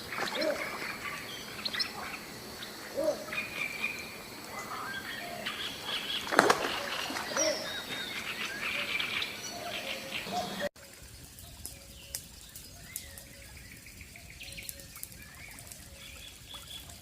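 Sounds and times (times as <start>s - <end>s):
birds chirping: 0.0s - 10.7s, 11.4s - 17.0s.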